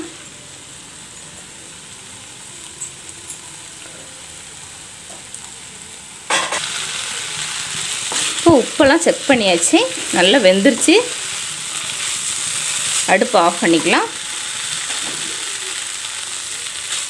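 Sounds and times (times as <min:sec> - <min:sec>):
vegetables frying with soft sizzle: 0:00.0 - 0:17.0.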